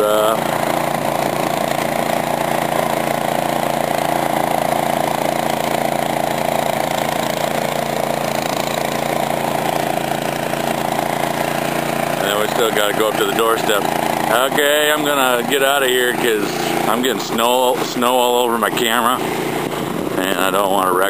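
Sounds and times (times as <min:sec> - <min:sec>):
snowblower engine running: 0:00.0 - 0:21.0.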